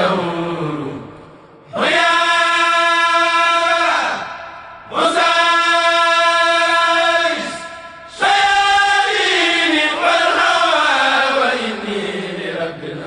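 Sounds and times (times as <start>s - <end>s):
voices chanting in unison: 0.0s - 13.0s.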